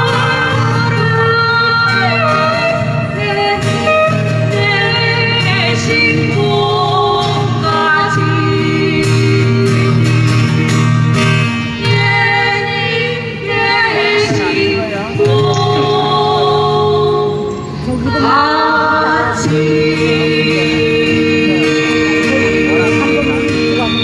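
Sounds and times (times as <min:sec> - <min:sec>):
women singing together: 0:00.0 - 0:10.7, 0:11.8 - 0:24.0
strummed acoustic guitar: 0:00.0 - 0:24.0.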